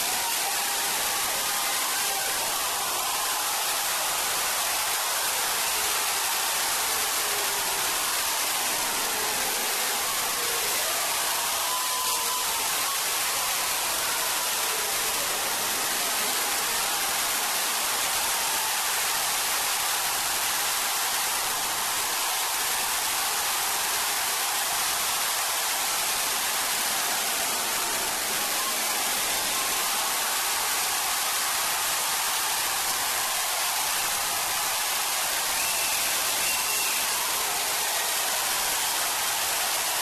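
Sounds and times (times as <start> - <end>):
steady hiss of noise: 0.0 - 40.0.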